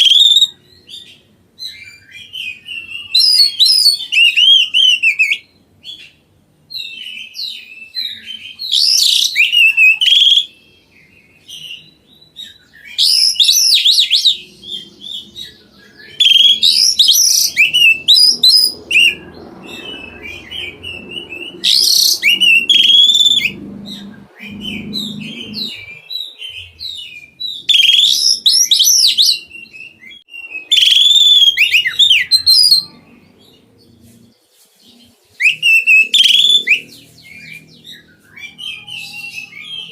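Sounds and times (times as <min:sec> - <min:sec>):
songbird whistling phrases: 0:00.0 - 0:33.0, 0:35.4 - 0:39.9.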